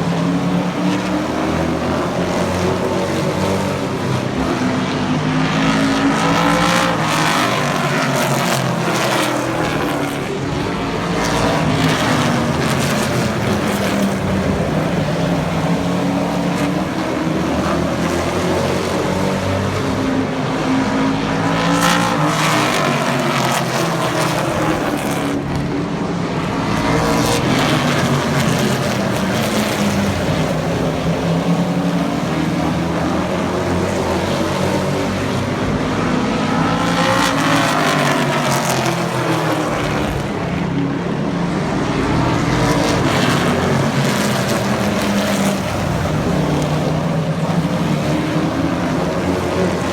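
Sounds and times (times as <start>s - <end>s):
racing truck engines droning: 0.0s - 49.9s.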